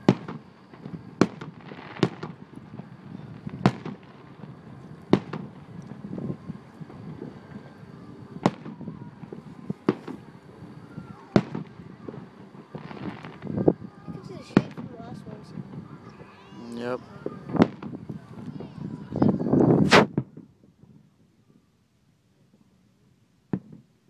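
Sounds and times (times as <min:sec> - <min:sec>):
faint firework pops: 0:00.0 - 0:16.4, 0:17.1 - 0:21.1, 0:23.5 - 0:23.9
firework shells bursting: 0:00.0 - 0:19.0, 0:19.6 - 0:20.5.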